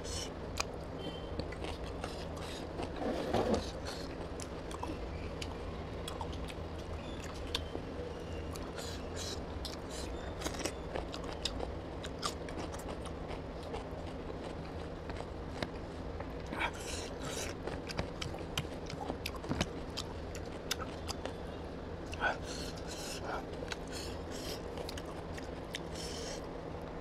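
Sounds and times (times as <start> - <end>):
person chewing food: 0.0 - 0.8, 1.4 - 7.7, 8.5 - 26.5.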